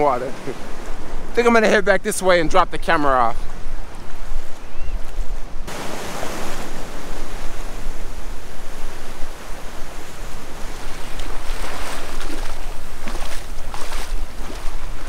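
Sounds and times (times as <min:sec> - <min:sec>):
ocean surf rushing: 0:00.0 - 0:15.0
wind buffeting microphone: 0:00.0 - 0:15.0.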